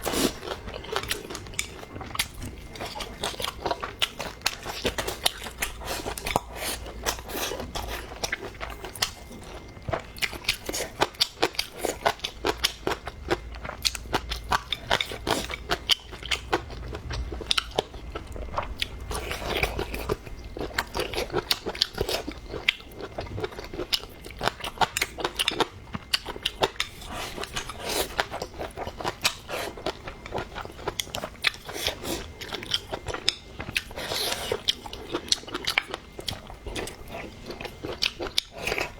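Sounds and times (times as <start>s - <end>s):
person chewing crisp food: 0.0s - 38.9s.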